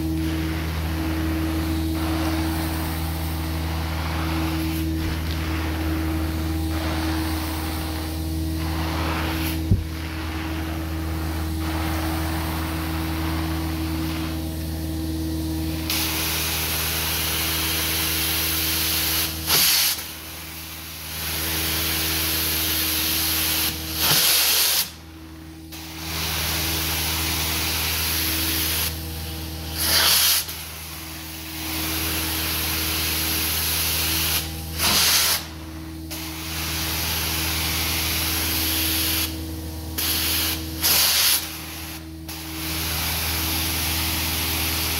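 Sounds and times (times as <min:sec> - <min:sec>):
wand hissing spray and suction: 0:00.0 - 0:14.9, 0:15.7 - 0:20.2, 0:21.2 - 0:25.0, 0:29.7 - 0:39.4, 0:40.0 - 0:44.2
carpet cleaner motor hum: 0:00.0 - 0:44.9.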